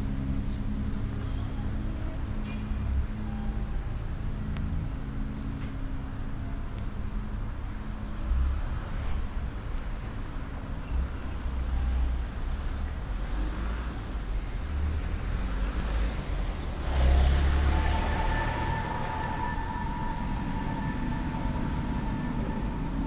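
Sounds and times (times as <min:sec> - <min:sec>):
low traffic-like rumble: 0:00.0 - 0:23.0.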